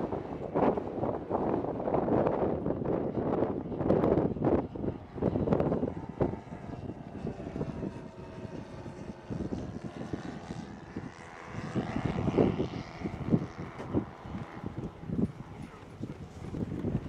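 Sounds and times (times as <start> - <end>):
model aircraft propeller drone: 0.0 - 17.0
wind buffeting microphone: 0.0 - 17.0.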